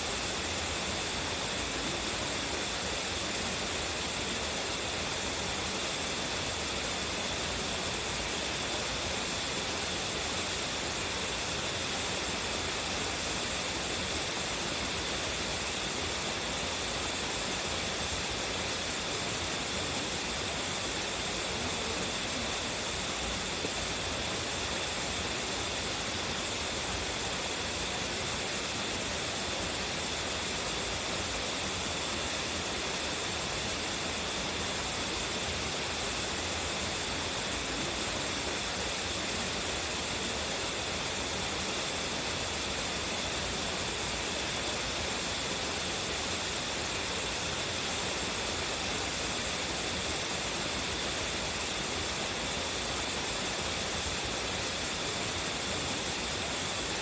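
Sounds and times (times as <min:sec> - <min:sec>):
waterfall crashing: 0:00.1 - 0:57.0.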